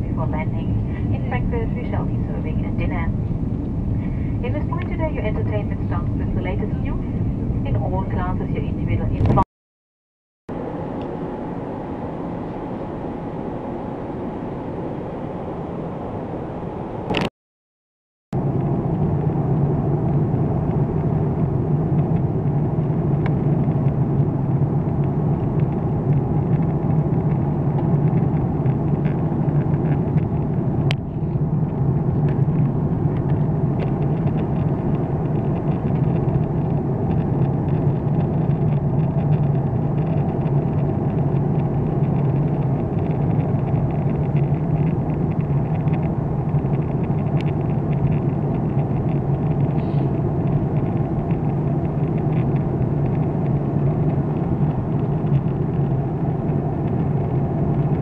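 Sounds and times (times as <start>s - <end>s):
airliner cabin drone: 0.0s - 9.5s, 10.5s - 17.3s, 18.4s - 58.0s.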